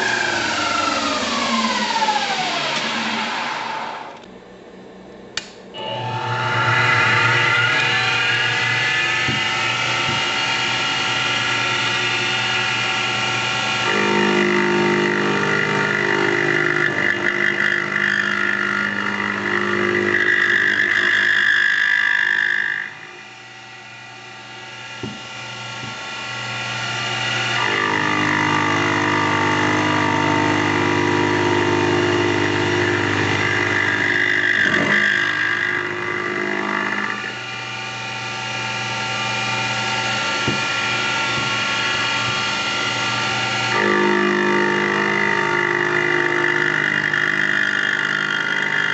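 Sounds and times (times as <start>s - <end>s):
lathe motors whining: 0.0s - 48.9s.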